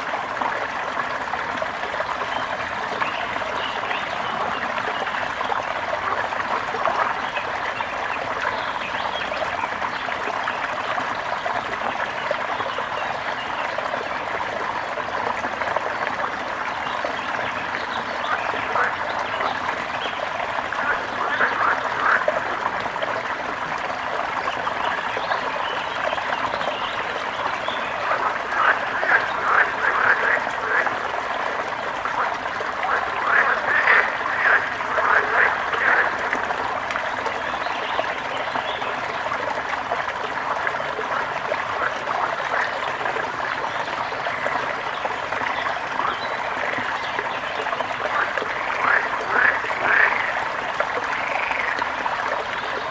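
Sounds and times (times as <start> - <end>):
brook running: 0.0 - 52.9
frogs croaking: 0.0 - 52.9.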